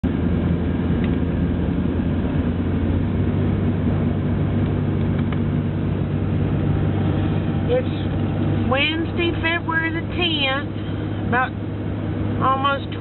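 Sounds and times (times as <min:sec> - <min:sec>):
car cabin engine and tyre rumble: 0:00.0 - 0:13.0.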